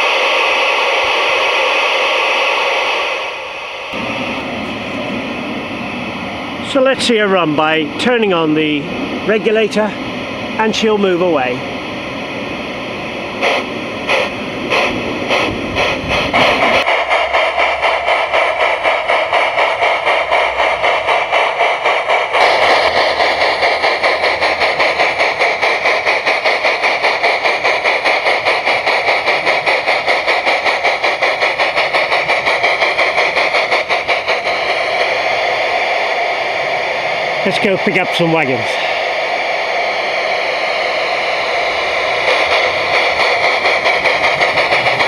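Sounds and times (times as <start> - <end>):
steady steam hiss: 0.0 - 45.0
steam locomotive exhaust chuffs: 0.0 - 45.0.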